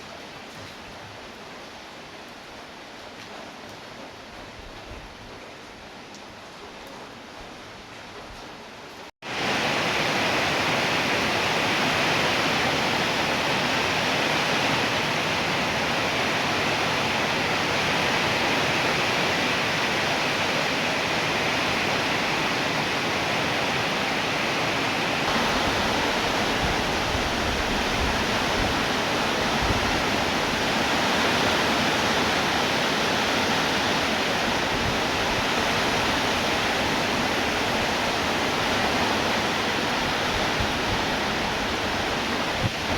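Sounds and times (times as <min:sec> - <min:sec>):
rain falling steadily: 0:00.0 - 0:42.9.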